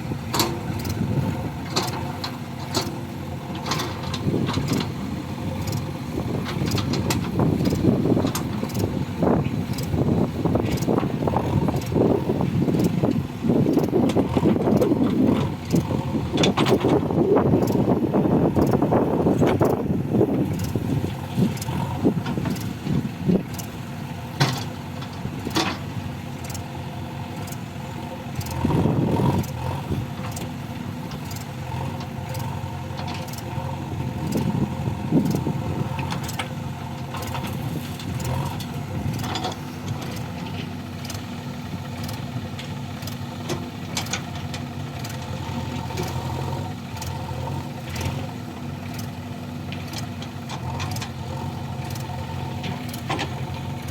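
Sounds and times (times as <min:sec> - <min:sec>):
diesel machinery engines running: 0:00.0 - 0:53.9.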